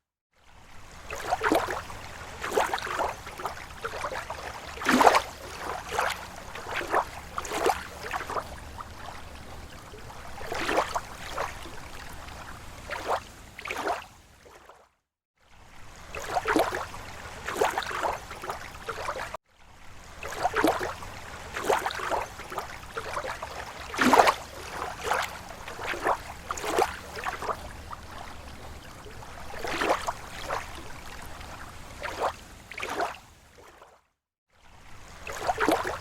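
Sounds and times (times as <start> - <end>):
small waves lapping shore: 0.3 - 36.0.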